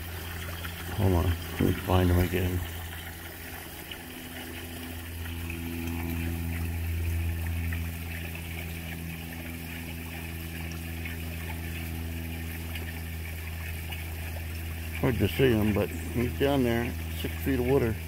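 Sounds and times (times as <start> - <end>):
low motor hum: 0.0 - 18.0
running water: 0.0 - 18.0.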